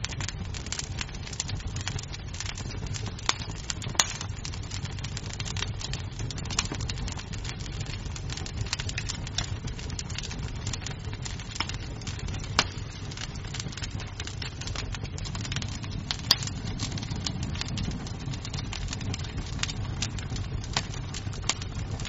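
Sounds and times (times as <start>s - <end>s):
burning wood snapping and popping: 0.0s - 22.0s
low rumble of flames: 0.0s - 22.0s
wood fire crackling: 0.0s - 22.0s.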